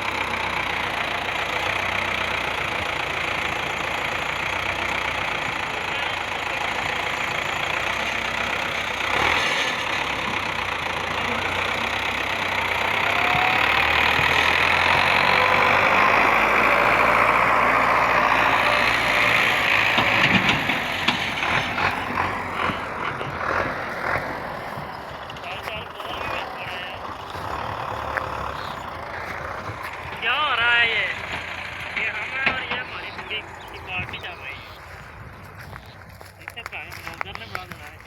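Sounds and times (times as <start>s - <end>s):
motor engine running: 0.0s - 38.0s.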